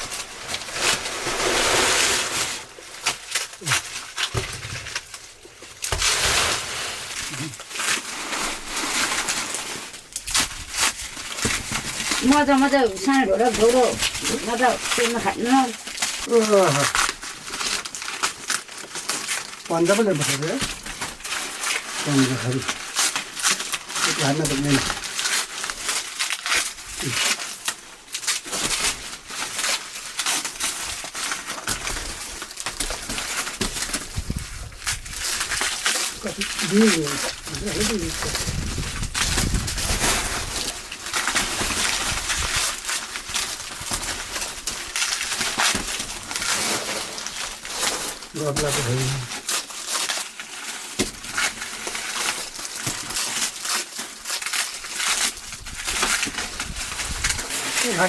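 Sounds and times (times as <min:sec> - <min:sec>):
dry corn leaves rustling: 0:00.0 - 0:58.0
stalks snapping: 0:10.2 - 0:58.0.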